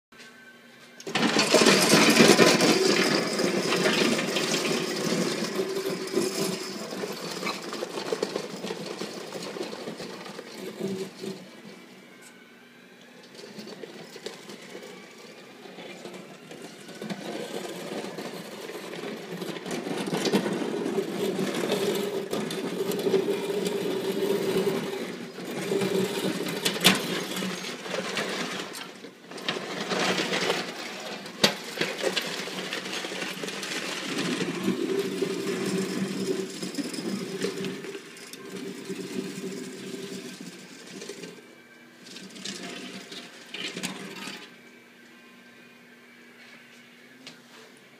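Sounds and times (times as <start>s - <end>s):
electric motors whining: 0.2s - 47.9s.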